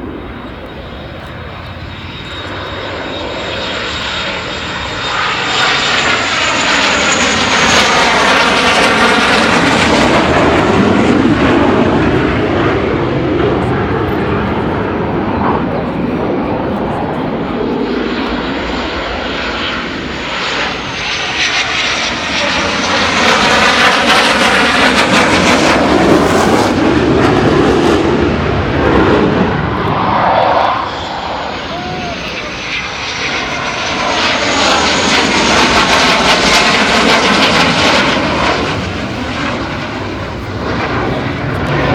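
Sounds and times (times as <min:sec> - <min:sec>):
high turbine whine: 0:00.0 - 0:41.9
jet engine noise: 0:00.0 - 0:41.9.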